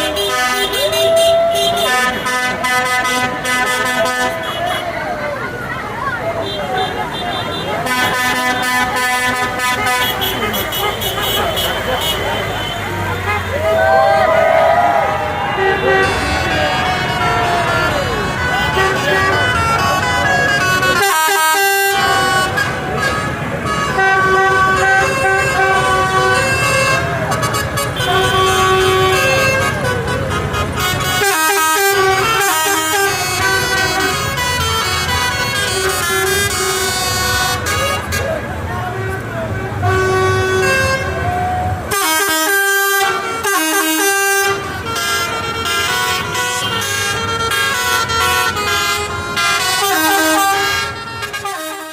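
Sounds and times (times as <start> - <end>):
vehicle horns sounding: 0.0 - 5.2, 6.2 - 14.4, 15.0 - 51.9
tractor and truck engines rumbling: 0.0 - 51.9.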